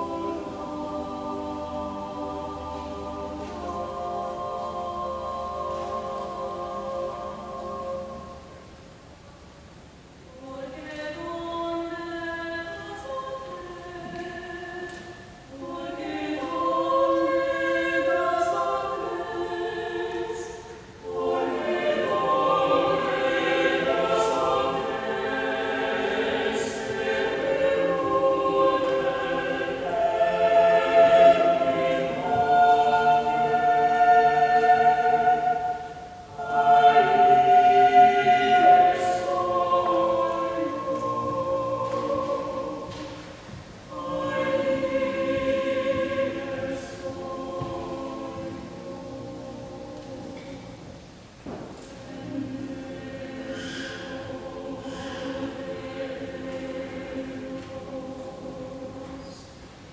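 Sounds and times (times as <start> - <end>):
church choir singing: 0.0 - 8.9, 10.2 - 59.9.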